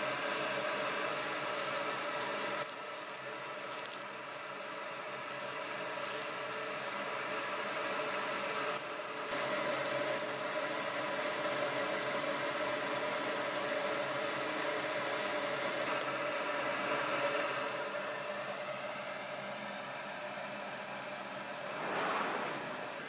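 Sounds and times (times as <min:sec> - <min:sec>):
meat sizzling on a grill: 0:00.0 - 0:22.2
ventilation fan hum: 0:00.0 - 0:23.0.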